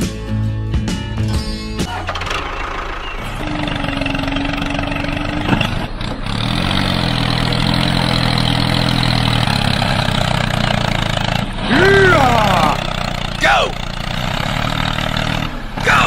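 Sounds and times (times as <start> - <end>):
tractor engine starting and idling: 1.2 - 16.0.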